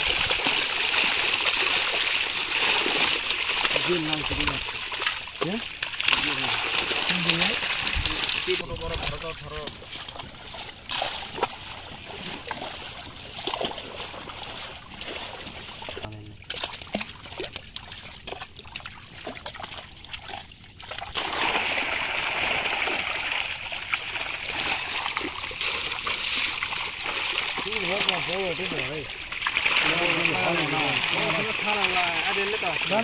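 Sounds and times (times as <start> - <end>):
fish splashing in water: 0.0 - 33.0.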